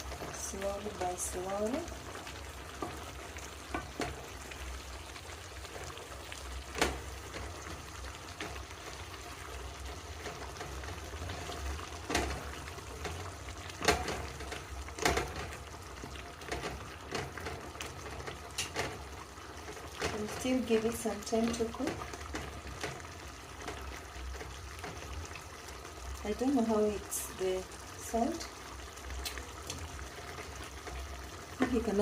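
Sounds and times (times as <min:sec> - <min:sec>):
stew sizzling in a pot: 0:00.0 - 0:32.0.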